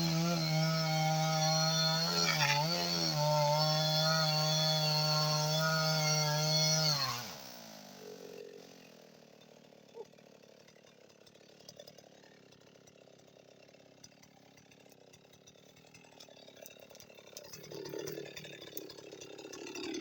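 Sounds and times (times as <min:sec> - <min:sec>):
chainsaw idling: 0:00.0 - 0:20.0.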